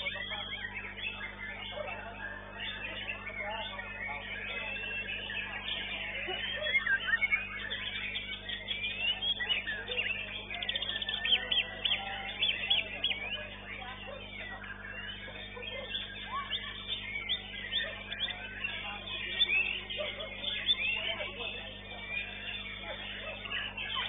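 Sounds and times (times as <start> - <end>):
bird singing whistled chirps: 0.0 - 24.0
steady low hum: 0.0 - 24.0.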